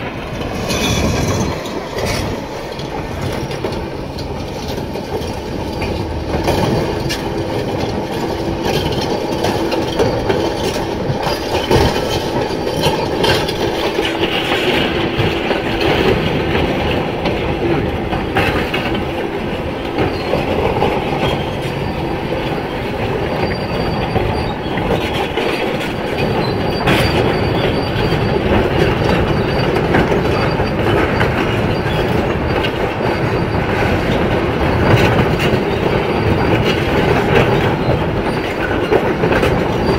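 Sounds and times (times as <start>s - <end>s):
excavator engine hum: 0.0s - 39.9s
steel tracks clanking and squealing: 0.0s - 39.9s.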